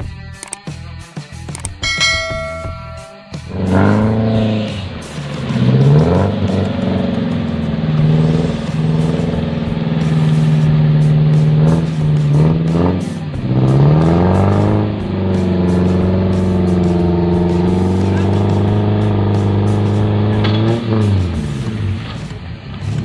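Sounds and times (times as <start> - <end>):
engine revving hard: 3.5 - 23.0.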